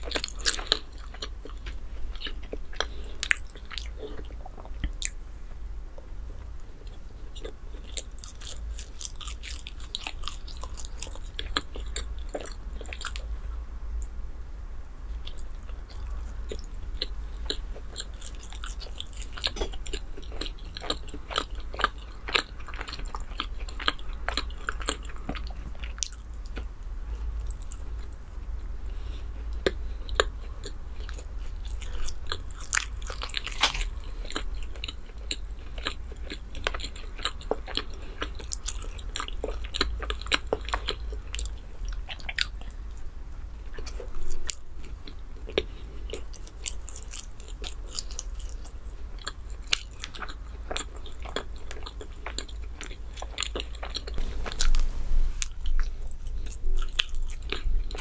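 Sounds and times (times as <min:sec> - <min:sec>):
chewing and biting bread: 0:00.0 - 0:05.2, 0:06.4 - 0:13.3, 0:15.2 - 0:28.3, 0:28.9 - 0:58.0
steady low hum: 0:00.0 - 0:58.0.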